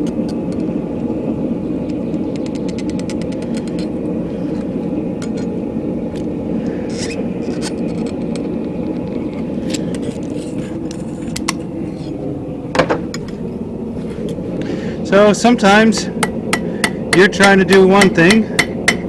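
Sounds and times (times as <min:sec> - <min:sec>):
forge rumbling: 0:00.0 - 0:19.0.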